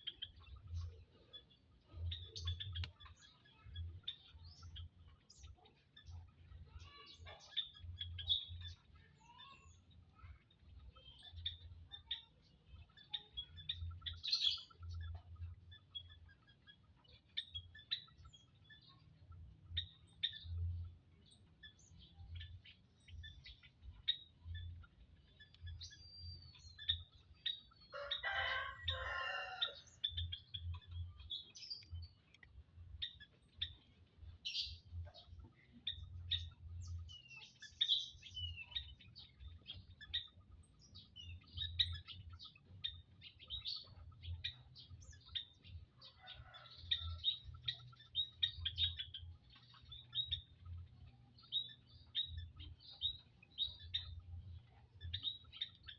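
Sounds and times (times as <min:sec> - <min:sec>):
quail chirping: 0:00.0 - 0:55.9.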